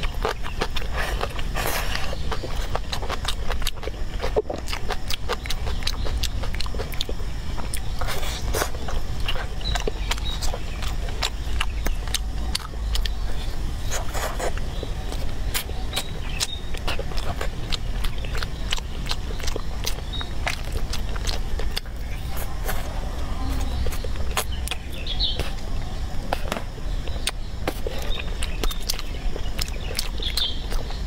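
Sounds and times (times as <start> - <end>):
close-up chewing food: 0.0 - 31.0
steady low hum: 0.0 - 31.0.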